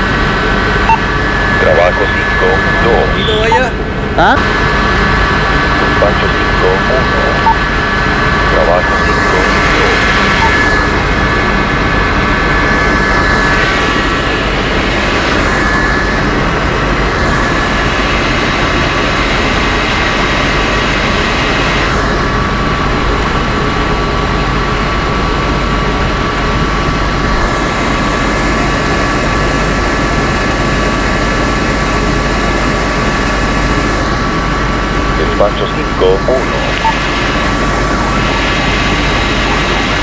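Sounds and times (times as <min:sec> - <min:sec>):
engine running loudly: 0:00.0 - 0:40.0
high whine: 0:00.0 - 0:40.0.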